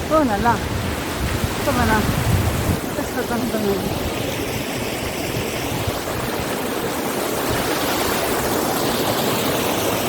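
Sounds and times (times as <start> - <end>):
rushing flowing water: 0.0 - 10.0.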